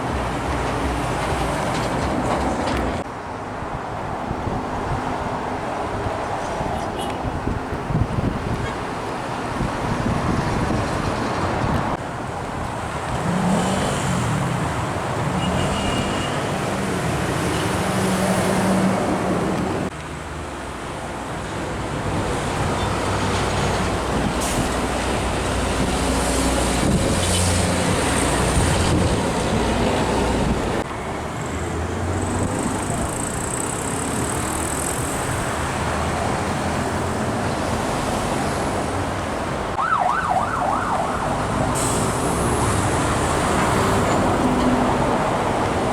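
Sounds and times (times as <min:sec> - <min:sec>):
diesel trucks driving past: 0:00.0 - 0:45.9.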